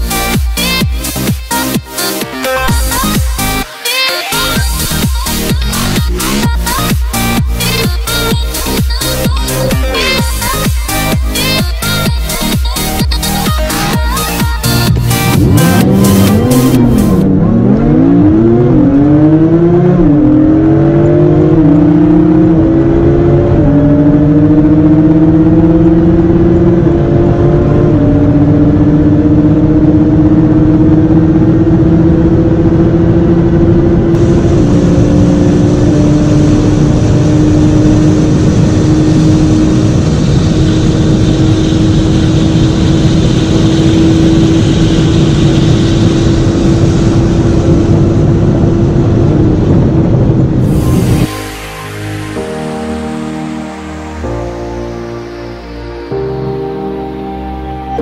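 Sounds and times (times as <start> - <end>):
rushing noise: 0.0 - 58.0
sports car engine at full throttle: 0.0 - 58.0.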